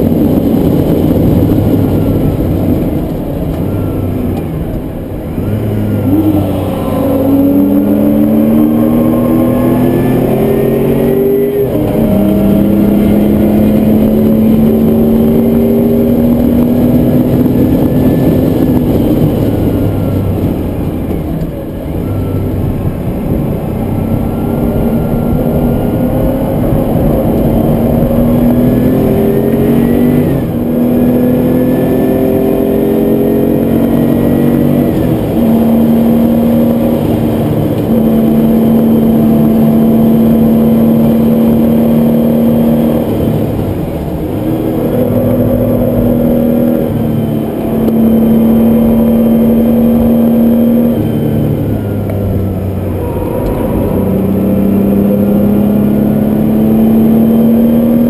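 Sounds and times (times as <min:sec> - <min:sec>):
car engine revving from inside: 0:00.0 - 0:58.0.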